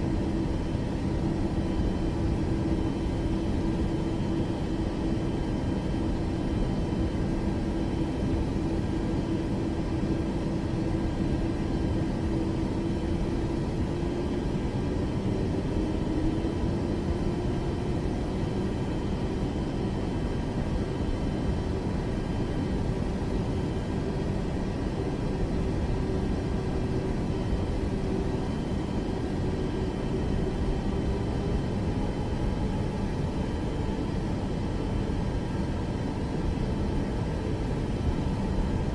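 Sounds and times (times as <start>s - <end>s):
airplane engines running: 0.0s - 38.9s.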